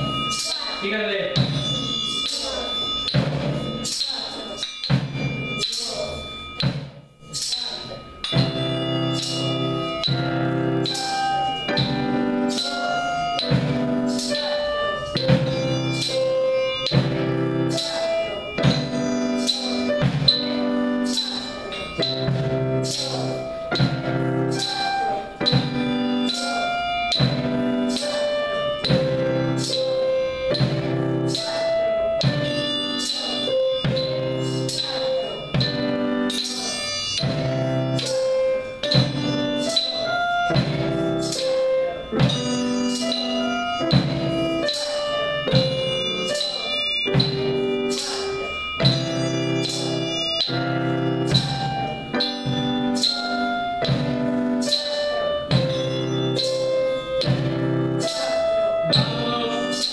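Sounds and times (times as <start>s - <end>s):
digital piano chords: 0.0s - 59.9s
drumsticks striking: 0.0s - 59.9s.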